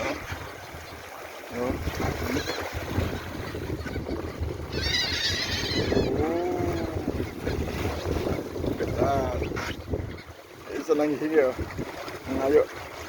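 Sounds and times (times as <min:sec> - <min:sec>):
wind noise on microphone: 0:00.0 - 0:10.7, 0:11.5 - 0:13.0
seabirds calling: 0:00.0 - 0:13.0.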